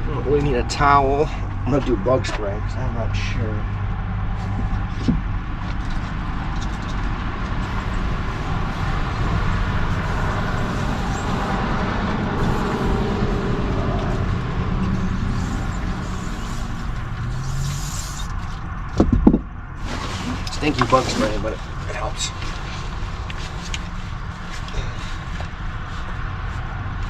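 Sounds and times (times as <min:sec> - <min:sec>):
motor vehicle humming: 0:00.0 - 0:27.0.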